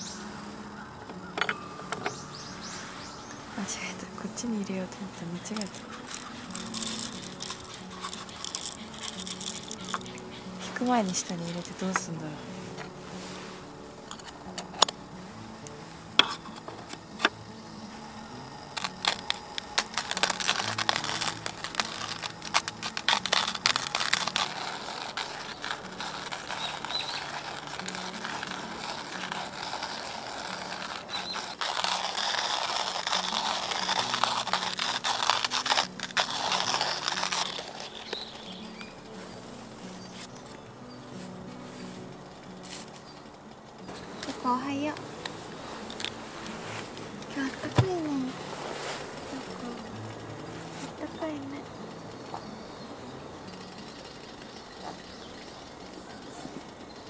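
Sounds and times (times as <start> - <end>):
hand grinder crushing coffee beans: 1.0 - 13.4, 14.0 - 40.6, 42.3 - 57.0.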